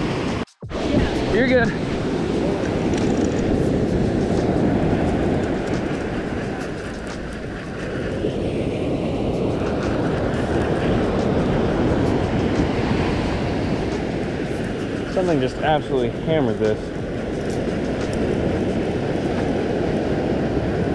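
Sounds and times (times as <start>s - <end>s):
wind rumbling on microphone: 0.0s - 20.9s.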